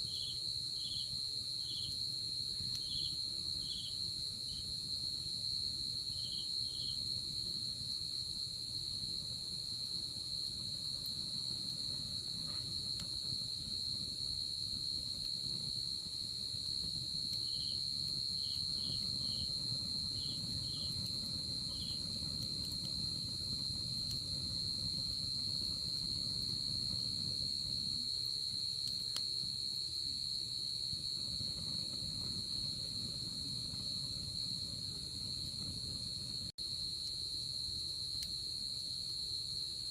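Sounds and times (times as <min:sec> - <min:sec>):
fire crackle: 0:00.0 - 0:39.9
insect chirps: 0:00.0 - 0:39.9.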